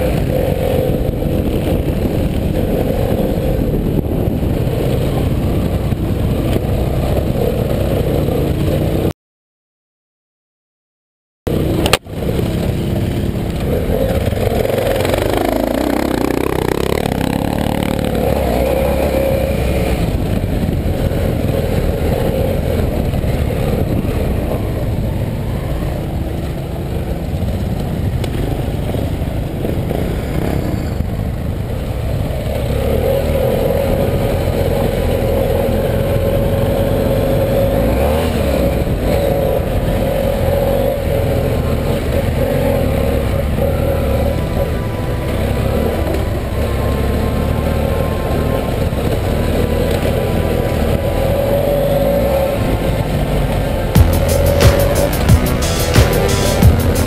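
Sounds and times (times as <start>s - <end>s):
low rumble and clatter: 0.0s - 9.1s, 11.5s - 57.0s
motorcycle engine revving: 0.0s - 9.1s, 11.5s - 57.0s.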